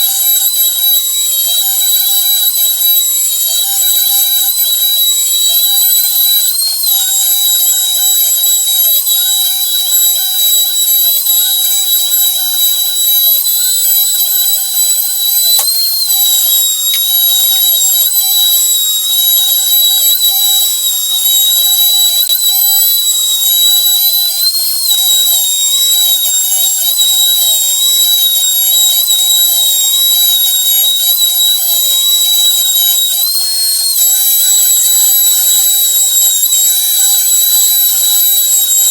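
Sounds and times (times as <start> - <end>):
high-pitched spindle whine: 0.0 - 38.9
stepper motors gliding tones: 0.0 - 38.9.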